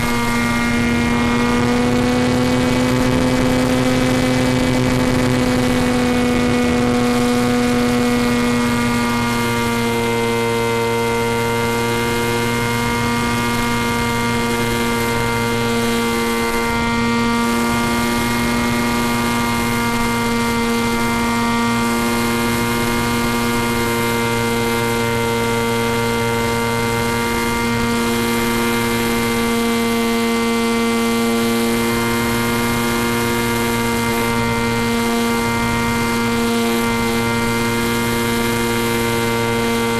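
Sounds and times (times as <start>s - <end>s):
electric motor and propeller drone: 0.0s - 39.9s.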